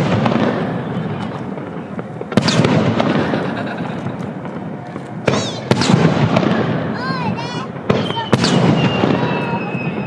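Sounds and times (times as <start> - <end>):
firework crackle: 0.0 - 10.0
firework shells bursting: 0.0 - 10.0.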